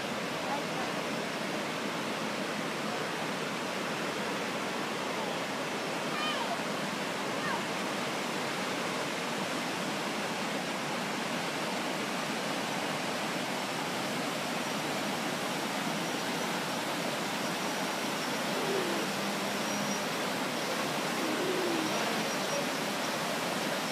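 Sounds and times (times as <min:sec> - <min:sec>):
rapids rushing over boulders: 0:00.0 - 0:23.9.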